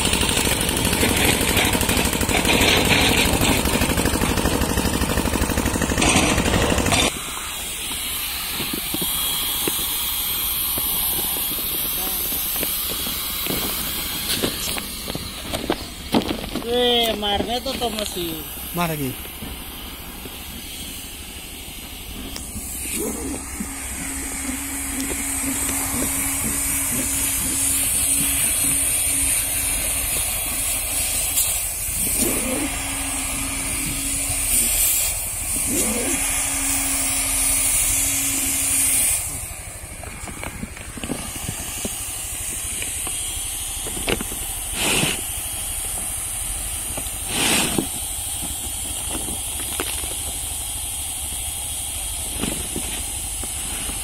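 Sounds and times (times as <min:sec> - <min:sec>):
hot-air welding gun hissing: 0:00.0 - 0:54.0.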